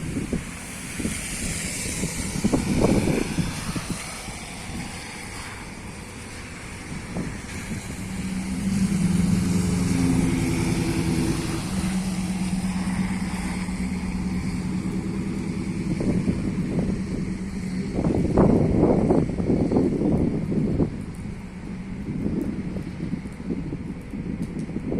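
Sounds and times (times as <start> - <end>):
rain hissing: 0.0 - 24.9
vehicle engine humming: 0.0 - 24.9.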